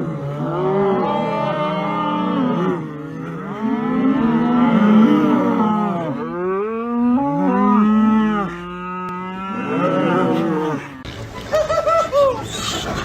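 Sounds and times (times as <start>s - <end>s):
cow mooing: 0.0s - 11.0s.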